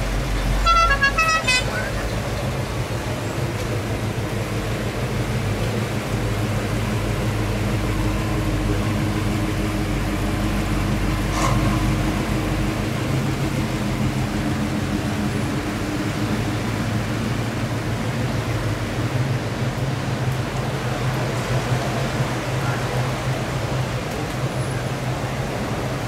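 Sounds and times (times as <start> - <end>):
car cruising slowly past: 0.0 - 26.0
low engine rumble: 0.0 - 26.0.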